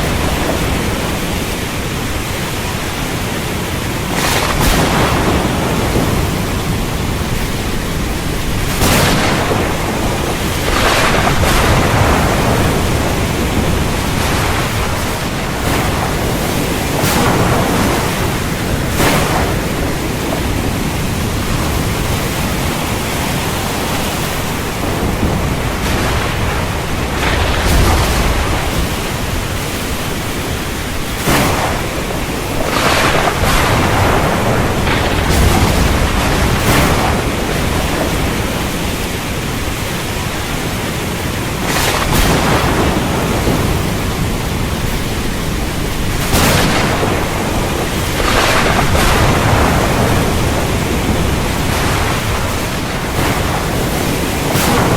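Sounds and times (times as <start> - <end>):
heavy rain falling: 0.0 - 54.9
thunder cracking and rumbling: 0.0 - 54.9.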